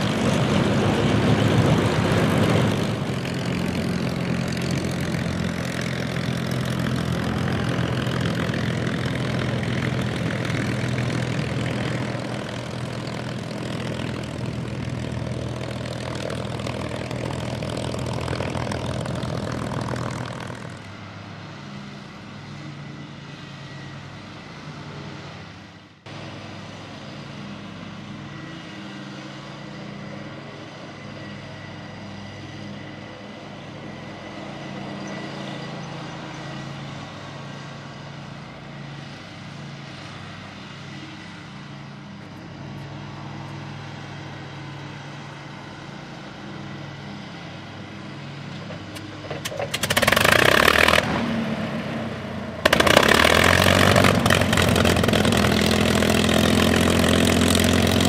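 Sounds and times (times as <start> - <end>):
aircraft piston engine running: 0.0 - 58.0.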